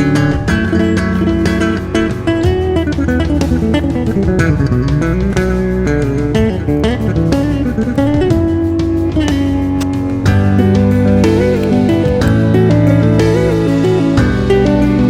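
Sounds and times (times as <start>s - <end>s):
electric bass with pitch bends: 0.0s - 15.0s.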